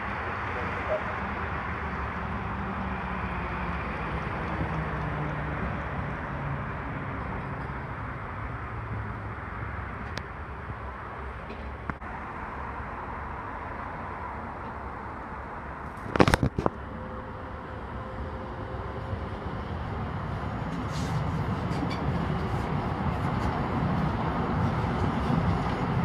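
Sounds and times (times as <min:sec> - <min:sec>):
light rail train humming: 0:00.0 - 0:26.0
street noise: 0:00.0 - 0:26.0.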